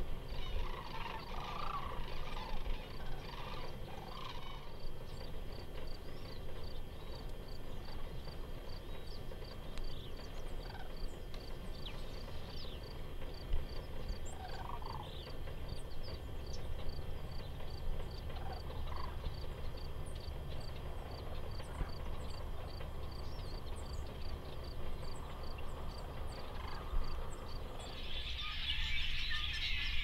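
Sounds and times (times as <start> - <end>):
sandhill cranes calling: 0.0 - 30.0
small birds chirping: 0.3 - 30.0.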